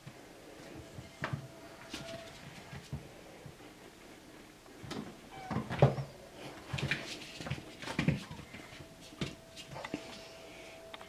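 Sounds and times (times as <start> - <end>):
kittens paws thumping and scuffling: 0.0 - 3.6, 4.8 - 10.3.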